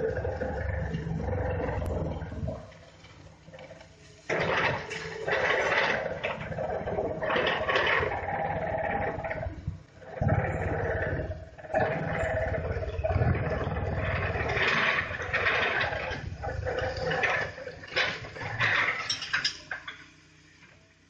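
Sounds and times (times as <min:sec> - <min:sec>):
excavator engine: 0:00.0 - 0:21.0.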